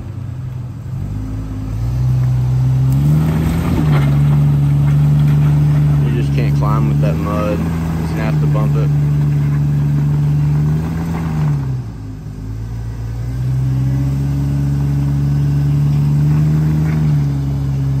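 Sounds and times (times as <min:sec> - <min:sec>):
engine revving under load: 0:00.0 - 0:18.0.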